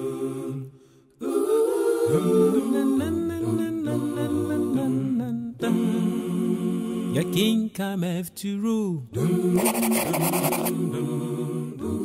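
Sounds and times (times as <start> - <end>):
a cappella singing: 0.0 - 12.0.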